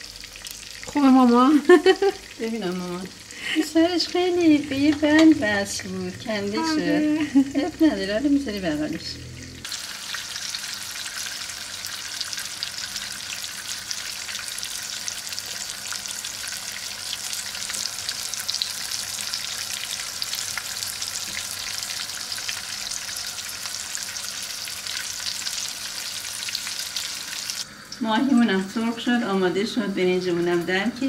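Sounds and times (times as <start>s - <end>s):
oil sizzling around frying fish: 0.0s - 31.0s.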